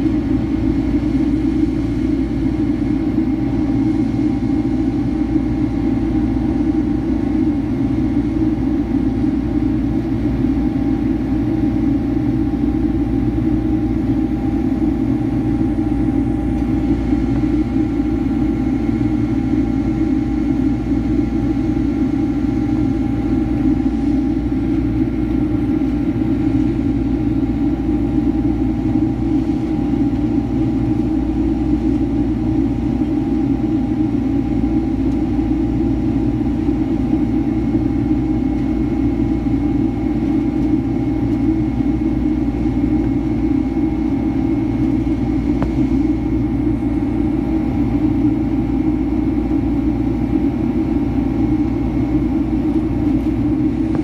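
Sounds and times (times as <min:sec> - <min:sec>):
jet engine roar in cabin: 0:00.0 - 0:54.0.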